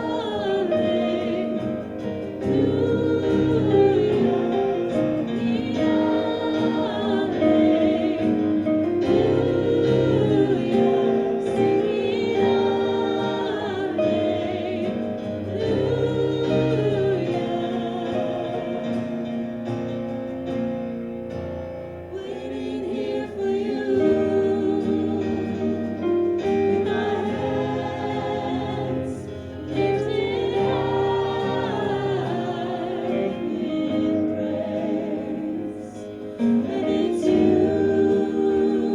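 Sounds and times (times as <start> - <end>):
group singing worship song: 0.0 - 38.9
instrumental backing: 0.0 - 38.9.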